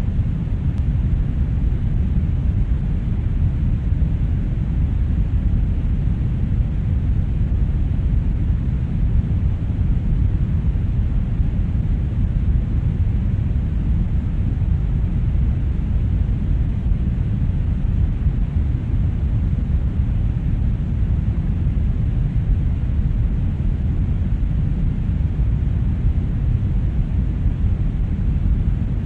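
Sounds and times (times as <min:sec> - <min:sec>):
brown noise: 0:00.0 - 0:29.0.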